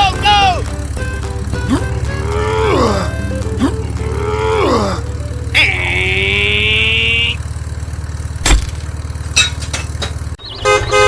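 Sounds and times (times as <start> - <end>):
small engine running: 0.0 - 10.4.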